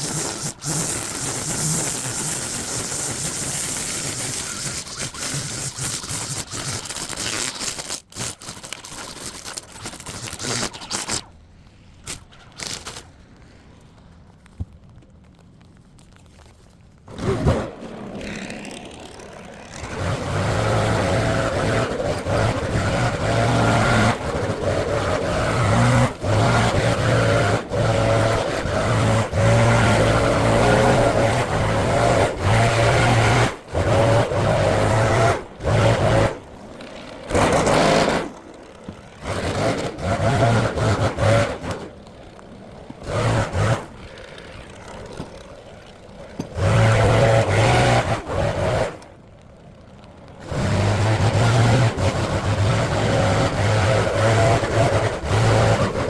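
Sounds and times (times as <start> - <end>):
small gasoline engine running: 0.0 - 11.2, 17.1 - 49.2, 50.3 - 56.0.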